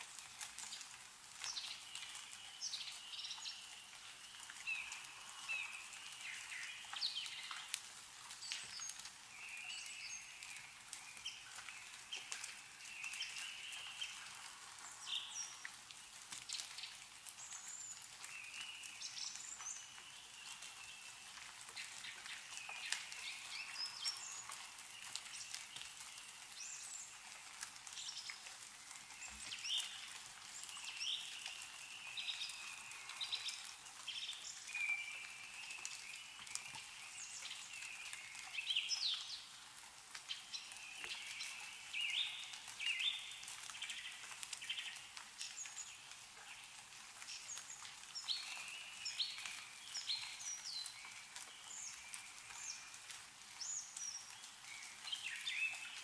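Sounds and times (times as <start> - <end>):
meltwater dripping: 0.0 - 56.0
small birds chirping: 0.2 - 56.0.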